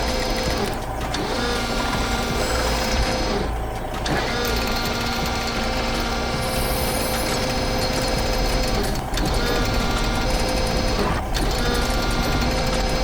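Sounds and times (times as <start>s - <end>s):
mechanical motor running: 0.0s - 13.0s.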